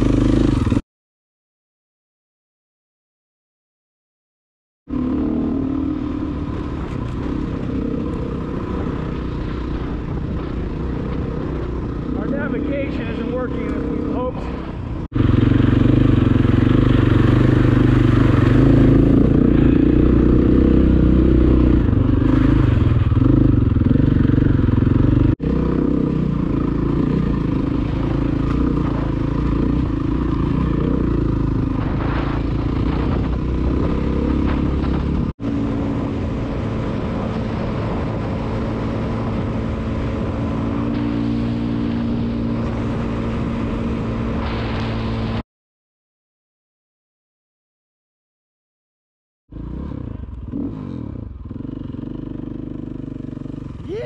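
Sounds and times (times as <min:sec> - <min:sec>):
dirt bike engine running: 0:00.0 - 0:00.8, 0:04.9 - 0:45.4, 0:49.5 - 0:54.0
wind and road noise: 0:00.0 - 0:00.8, 0:04.9 - 0:45.4, 0:49.5 - 0:54.0.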